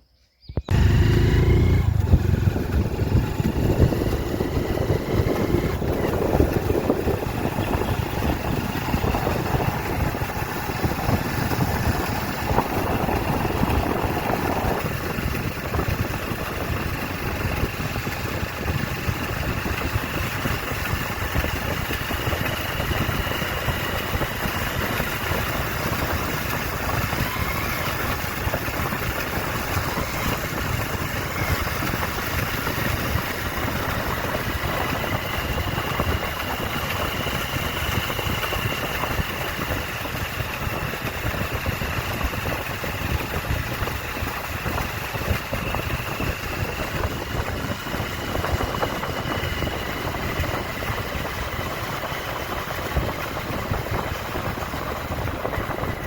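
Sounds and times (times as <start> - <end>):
vehicle engine running: 0.6 - 56.0.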